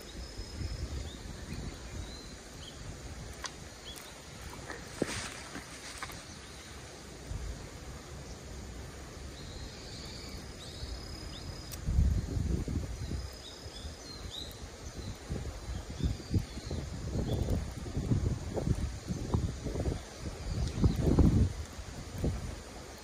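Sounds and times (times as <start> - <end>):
wind buffeting microphone: 0.0 - 6.5, 10.1 - 23.0.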